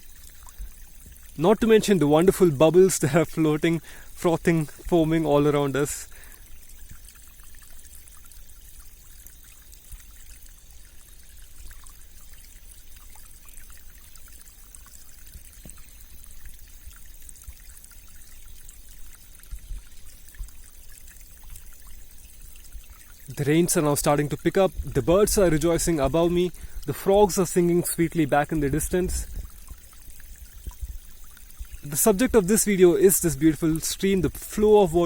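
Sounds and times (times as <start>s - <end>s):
stream flowing and trickling: 0.0s - 35.0s.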